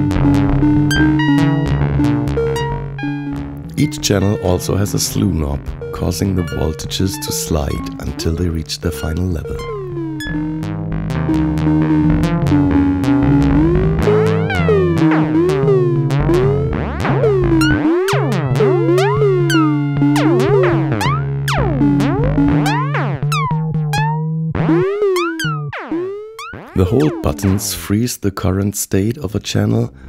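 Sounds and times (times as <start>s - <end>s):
held low synth note: 0.0s - 28.0s
synthesizer gliding tones: 0.0s - 28.0s.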